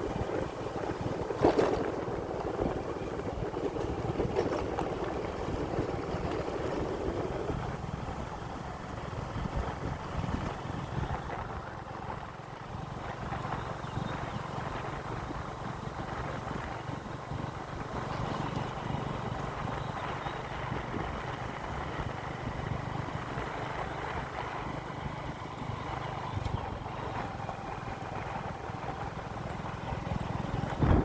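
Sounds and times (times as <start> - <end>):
motorcycle engine running: 0.0 - 31.0
rushing road noise: 0.0 - 31.0.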